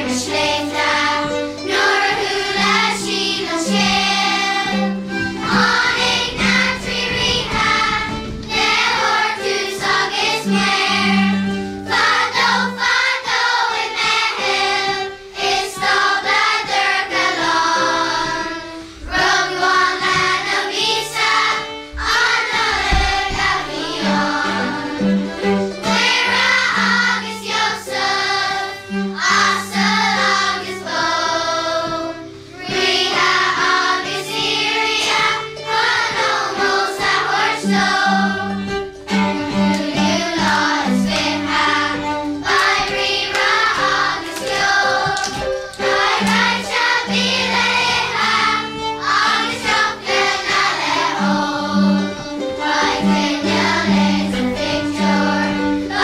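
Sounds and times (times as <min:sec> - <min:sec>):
children's choir singing: 0:00.0 - 0:56.0
steady repeated accompaniment notes: 0:00.0 - 0:56.0.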